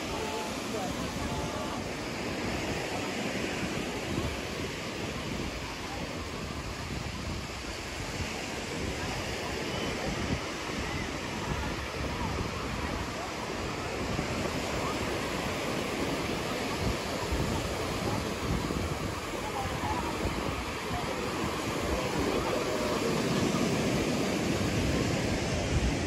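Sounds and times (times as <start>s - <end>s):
surf washing onto beach: 0.0s - 26.0s
voices of beachgoers: 0.0s - 26.0s
wind buffeting microphone: 0.0s - 26.0s.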